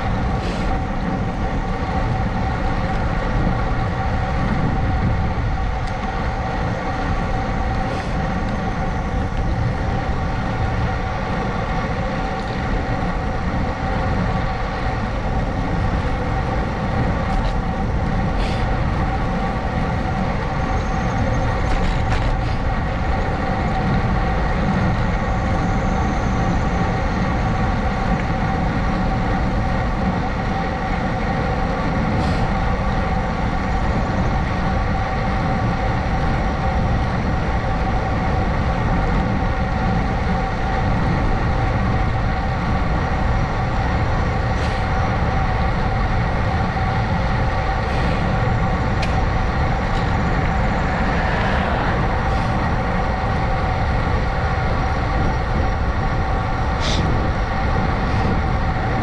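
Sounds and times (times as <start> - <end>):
constant tonal hum: 0.0 - 59.0
wind and road rush: 0.0 - 59.0.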